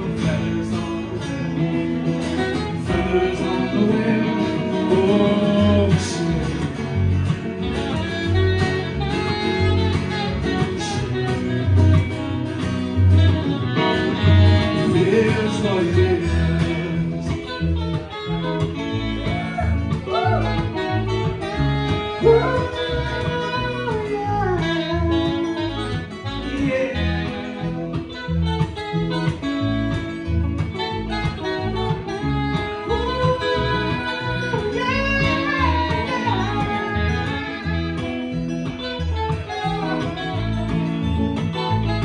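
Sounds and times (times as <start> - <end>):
bass and drum beat: 0.0 - 42.0
guitars: 0.0 - 42.0
gliding lead melody: 6.9 - 42.0.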